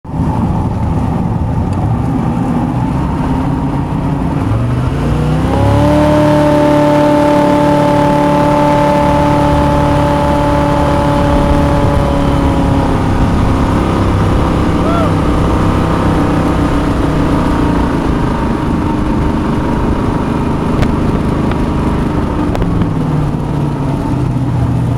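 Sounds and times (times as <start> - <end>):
jet boat engine running: 0.1 - 24.9.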